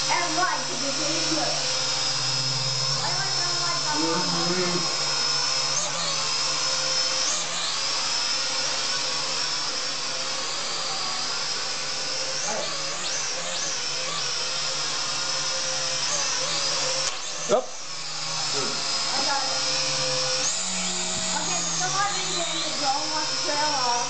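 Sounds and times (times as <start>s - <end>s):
toy drone propellers whining: 0.0s - 24.0s.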